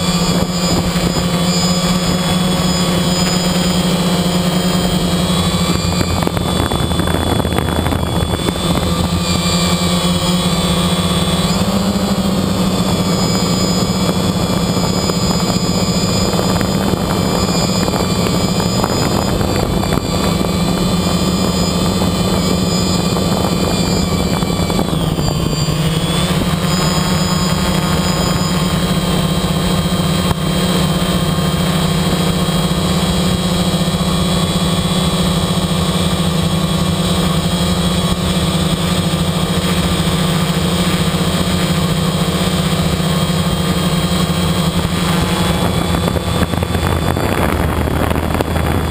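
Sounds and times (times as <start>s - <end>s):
drone propellers buzzing: 0.0s - 48.9s.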